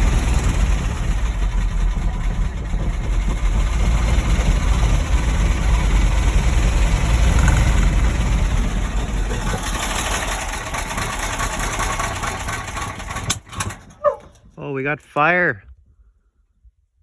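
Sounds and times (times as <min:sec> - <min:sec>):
truck engine running rough: 0:00.0 - 0:14.9.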